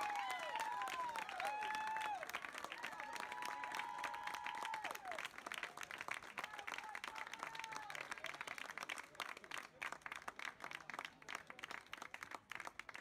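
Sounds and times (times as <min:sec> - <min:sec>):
crowd clapping: 0:00.0 - 0:13.0.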